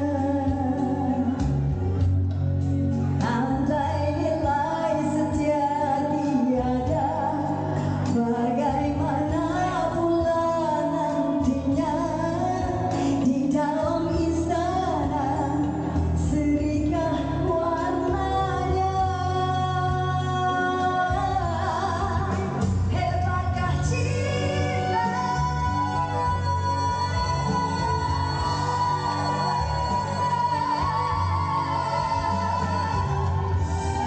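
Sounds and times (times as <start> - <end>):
woman singing into a microphone: 0.0 - 2.1, 3.1 - 34.0
instrumental backing music: 0.0 - 34.0.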